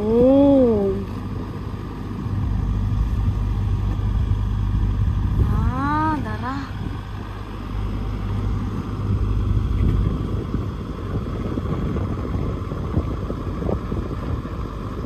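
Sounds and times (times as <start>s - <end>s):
combine harvester rumbling: 0.0s - 15.0s.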